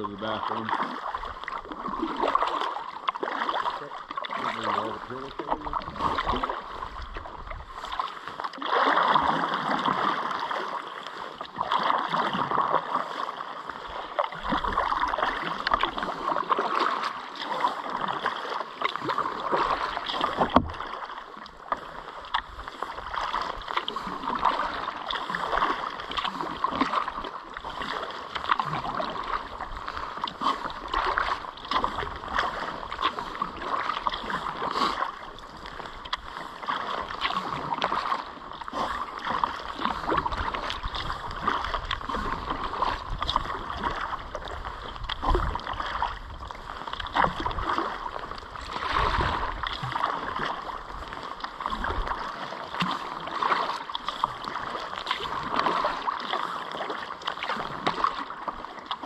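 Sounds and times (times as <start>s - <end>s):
paddle splashing in water: 0.0s - 59.0s.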